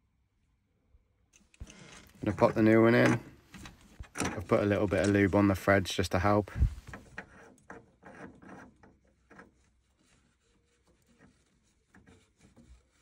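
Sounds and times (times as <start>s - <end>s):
rubbing and scraping of cartridge: 1.6s - 13.0s.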